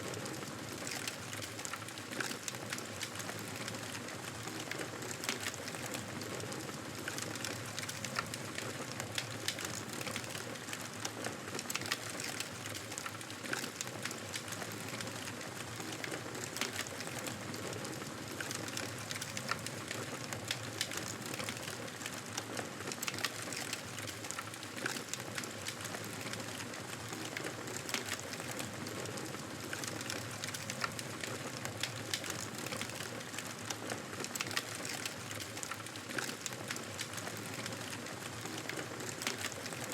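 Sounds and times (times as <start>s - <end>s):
fire burning in a fireplace: 0.0s - 39.9s.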